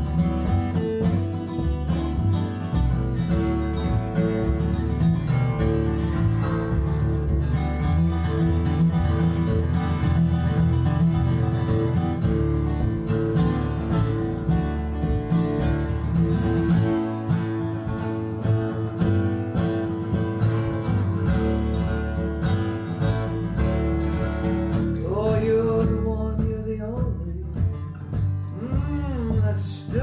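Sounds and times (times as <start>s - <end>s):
acoustic guitar picked and strummed: 0.0s - 30.0s.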